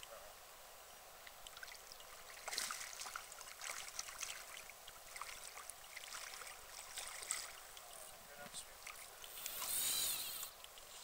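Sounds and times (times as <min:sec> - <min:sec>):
small crackling splashes: 0:01.2 - 0:11.0.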